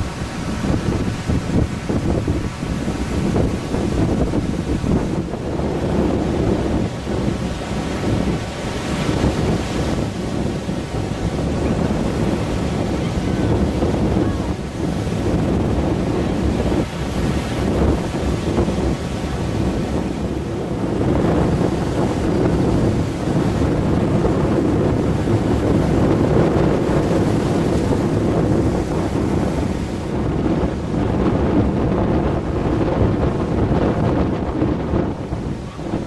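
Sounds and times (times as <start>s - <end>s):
sea surf: 0.0s - 36.0s
wind buffeting microphone: 0.0s - 36.0s.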